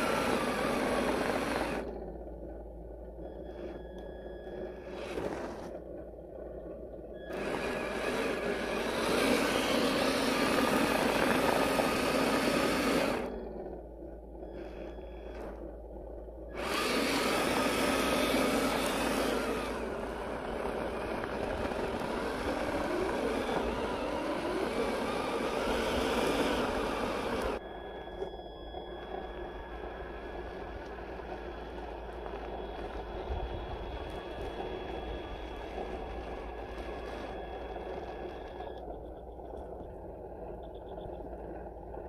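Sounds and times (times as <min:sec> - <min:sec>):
electric motor whining: 0:00.0 - 0:06.0, 0:07.1 - 0:42.0
tyres scrabbling on loose dirt: 0:03.6 - 0:14.4, 0:15.2 - 0:42.0.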